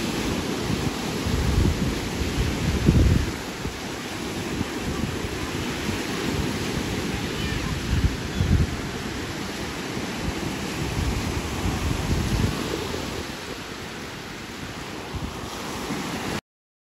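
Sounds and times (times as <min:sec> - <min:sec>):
sea surf: 0:00.0 - 0:16.4
wind buffeting microphone: 0:00.0 - 0:16.4.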